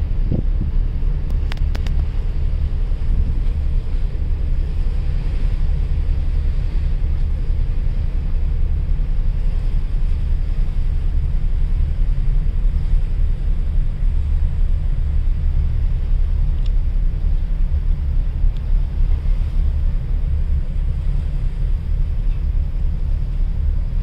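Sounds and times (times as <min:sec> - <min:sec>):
ship engine rumble: 0:00.0 - 0:24.0
wind noise on microphone: 0:00.0 - 0:24.0.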